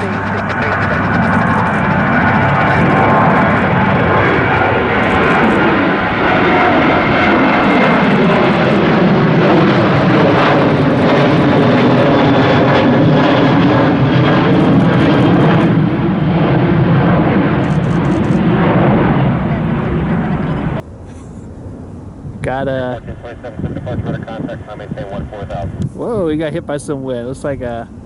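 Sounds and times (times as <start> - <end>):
jet plane passing: 0.0 - 28.0.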